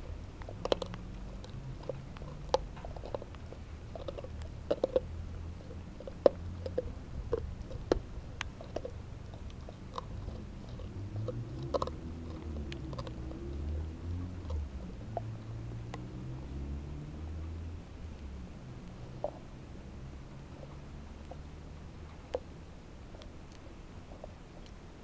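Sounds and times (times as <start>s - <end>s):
low hum: 0.0s - 25.0s
puppy crunching a bone: 0.0s - 25.0s.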